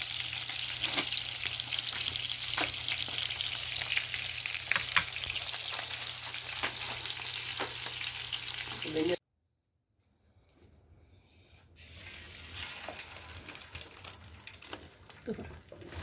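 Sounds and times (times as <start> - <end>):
oil popping and crackling: 0.0 - 8.9, 11.8 - 16.0
oil sizzling under frying fish: 0.0 - 9.2, 11.8 - 16.0.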